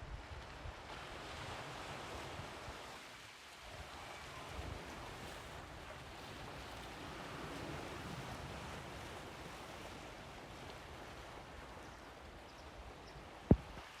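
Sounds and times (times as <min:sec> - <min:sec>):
sea waves washing onto shore: 0:00.2 - 0:14.0.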